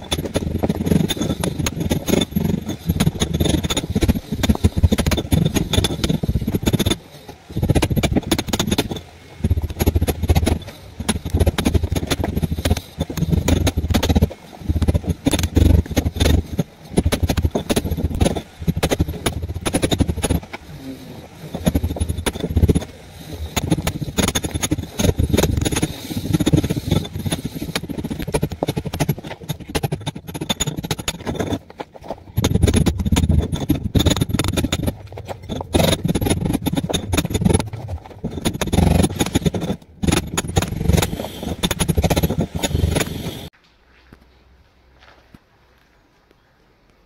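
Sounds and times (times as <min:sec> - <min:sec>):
angle grinder cutting brick: 0:00.0 - 0:43.6.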